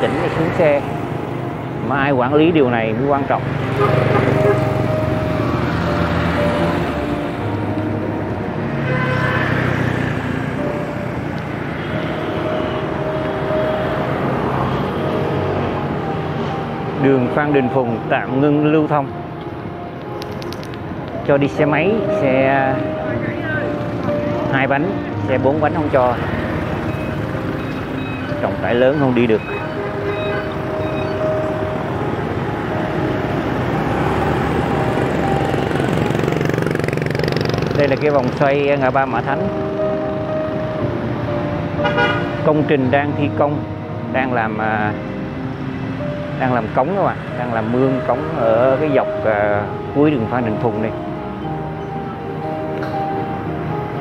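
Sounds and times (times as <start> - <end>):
passing vehicle engines: 0.0 - 54.0
road noise: 0.0 - 54.0.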